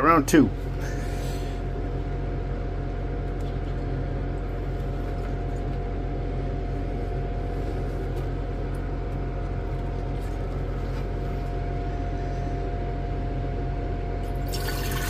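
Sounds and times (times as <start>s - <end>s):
deep machine hum: 0.0s - 15.0s
mid-pitched whine: 0.0s - 15.0s.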